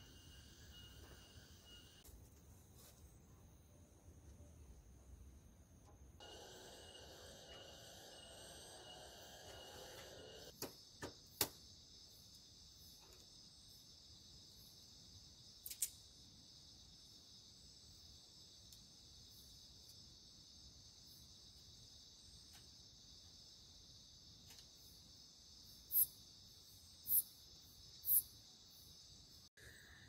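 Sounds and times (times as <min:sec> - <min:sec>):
night insects chirring: 0:00.0 - 0:02.0, 0:03.3 - 0:30.0.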